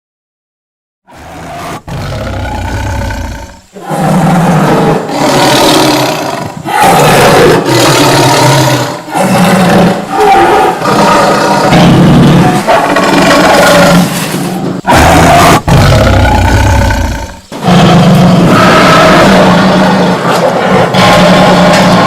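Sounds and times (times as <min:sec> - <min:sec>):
tiger growling: 0:01.1 - 0:22.0
tiger roaring: 0:01.1 - 0:22.0.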